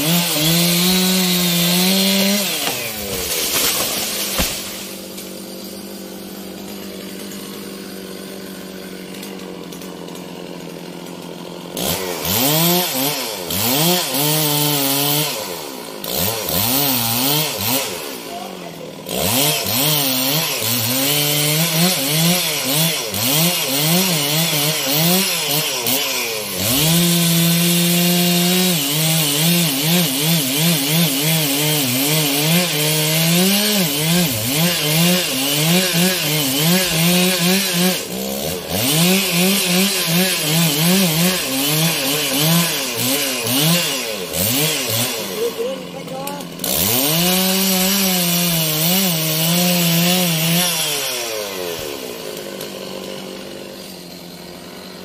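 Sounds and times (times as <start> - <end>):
chainsaw cutting wood: 0.0 - 55.0
chainsaw idling and revving: 0.0 - 55.0.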